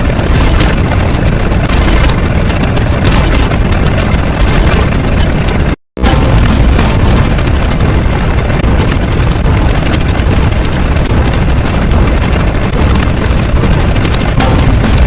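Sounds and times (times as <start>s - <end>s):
distorted rumbling roar: 0.0s - 15.0s.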